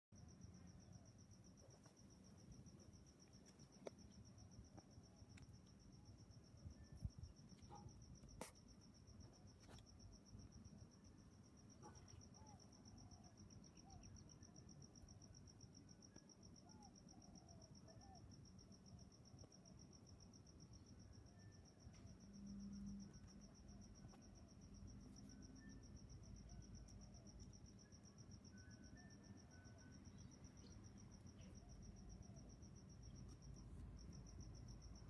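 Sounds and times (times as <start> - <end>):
high-pitched insect trill: 0.2 - 35.0.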